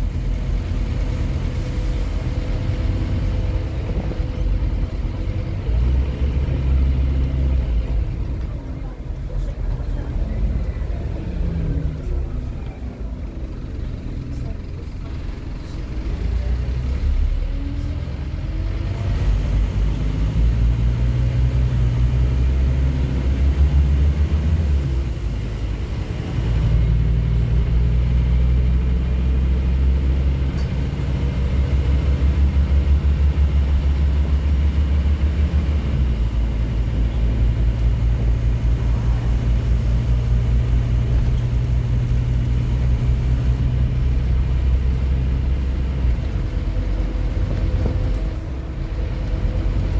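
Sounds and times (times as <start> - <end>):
bus diesel engine pulling: 0.0 - 49.9.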